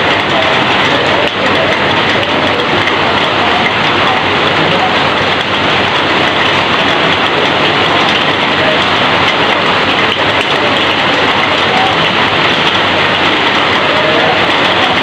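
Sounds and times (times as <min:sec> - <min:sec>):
heavy rain pouring off roof: 0:00.0 - 0:15.0.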